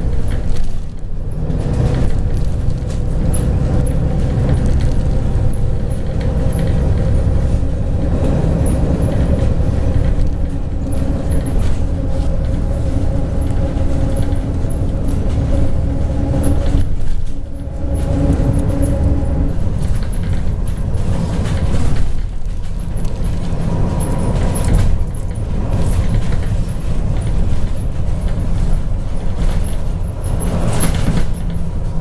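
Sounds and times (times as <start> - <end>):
bus engine running: 0.0 - 32.0
road rumble: 0.0 - 32.0.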